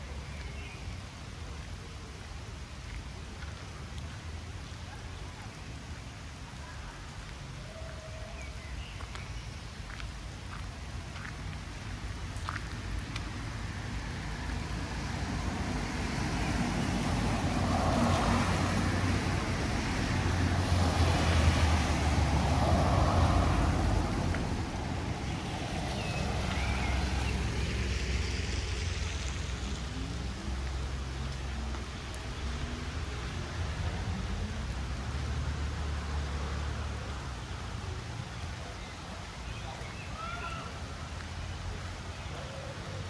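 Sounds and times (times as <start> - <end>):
vehicle passing on wet road: 0.0 - 43.0.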